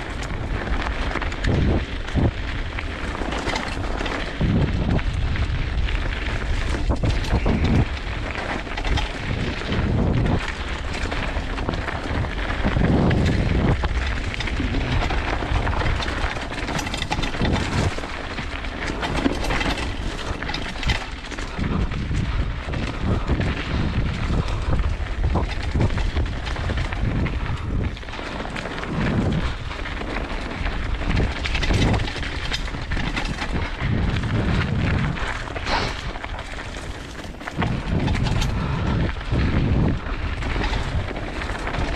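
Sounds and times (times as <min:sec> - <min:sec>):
bike knocks and rattles: 0:00.0 - 0:41.9
tyres rumbling over ground: 0:00.0 - 0:41.9
wind buffeting: 0:00.0 - 0:41.9.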